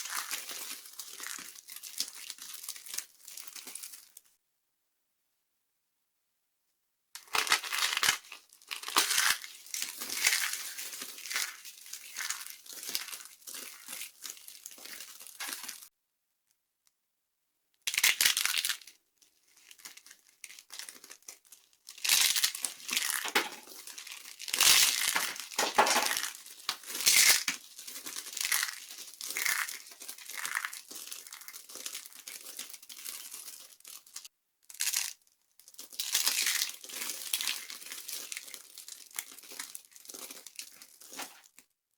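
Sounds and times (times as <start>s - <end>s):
dry soap crushed and crumbling: 0.0s - 4.3s, 7.2s - 15.9s, 17.8s - 41.8s.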